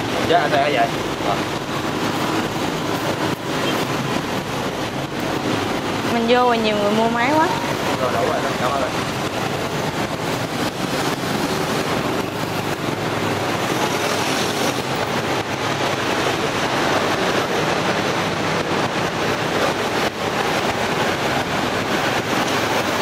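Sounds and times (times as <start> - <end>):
passing road traffic: 0.0 - 23.0.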